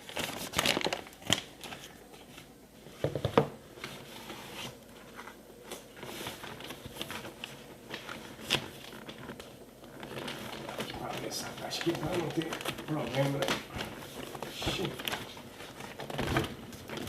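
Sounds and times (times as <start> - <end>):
packaging crinkle: 0.0 - 2.5, 3.7 - 17.0.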